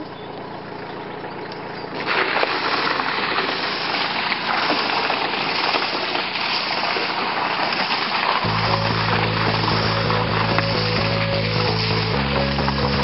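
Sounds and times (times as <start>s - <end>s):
hose water spraying against van: 1.9s - 13.0s.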